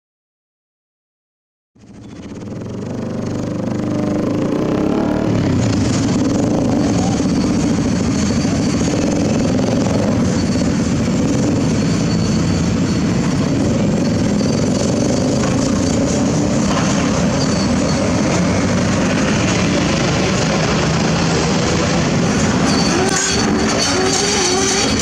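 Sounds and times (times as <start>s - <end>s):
excavator diesel engine running: 1.8s - 25.0s.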